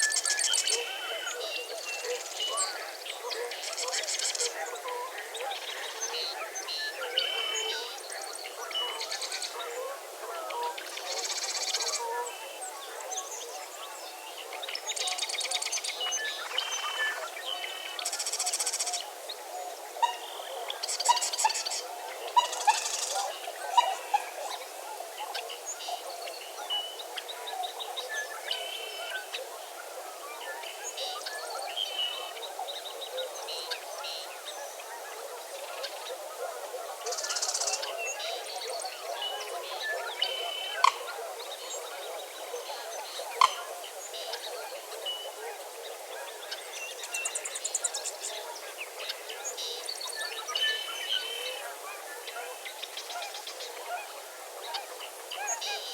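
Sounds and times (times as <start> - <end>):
many birds calling: 0.0 - 55.9.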